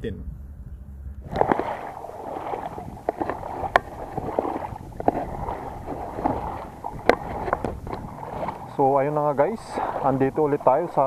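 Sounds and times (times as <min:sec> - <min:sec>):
seawater lapping and sloshing: 0:01.2 - 0:11.0
small splashes and clicks: 0:01.3 - 0:11.0.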